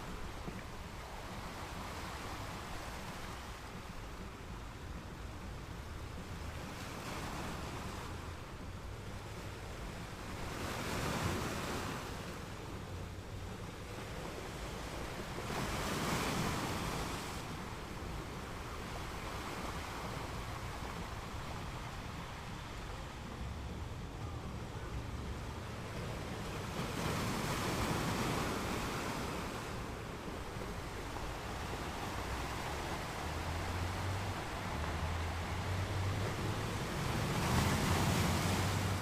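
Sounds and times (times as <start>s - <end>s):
ocean waves washing ashore: 0.0s - 39.0s
waves breaking: 0.0s - 39.0s.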